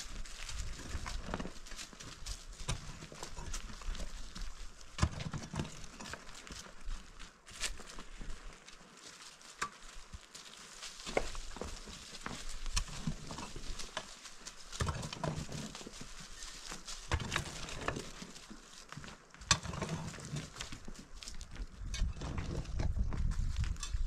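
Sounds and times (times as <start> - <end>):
shovel digging stony soil: 0.0 - 7.0, 10.9 - 24.0
dirt scooped and thrown: 0.0 - 24.0.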